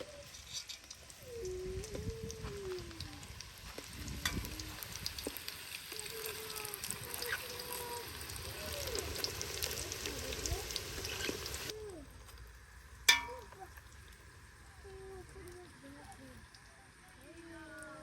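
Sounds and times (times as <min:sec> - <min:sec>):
hot oil crackling and sizzling: 0:00.0 - 0:18.0.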